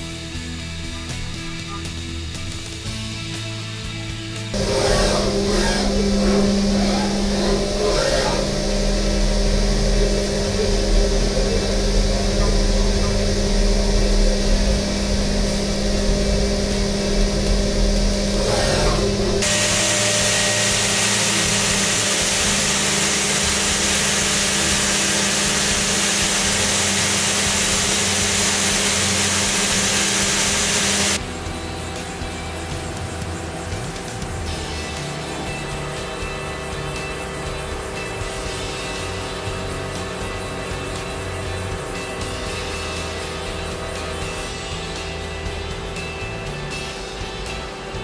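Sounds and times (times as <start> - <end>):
loud steady hiss: 0.0 - 48.0
milling machine humming: 4.1 - 48.0.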